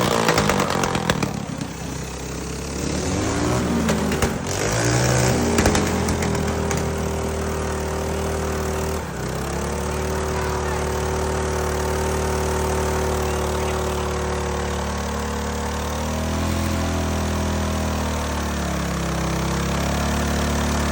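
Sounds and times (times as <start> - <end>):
minibike engine revving: 0.0 - 20.9.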